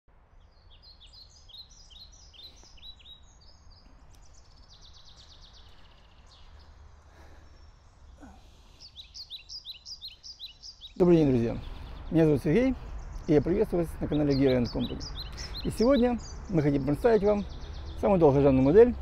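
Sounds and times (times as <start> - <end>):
small birds chirping: 0.1 - 19.0
bird trill: 0.5 - 19.0.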